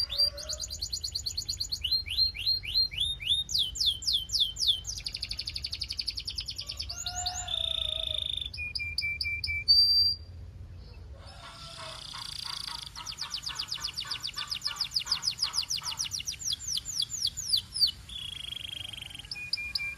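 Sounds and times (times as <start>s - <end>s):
canary singing: 0.0s - 19.9s.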